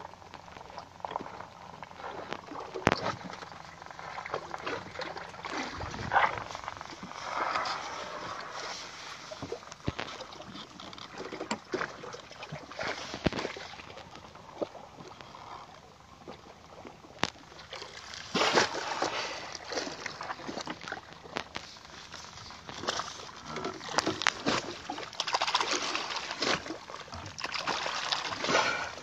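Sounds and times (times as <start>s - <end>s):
water splashing against boat: 0.0s - 29.0s.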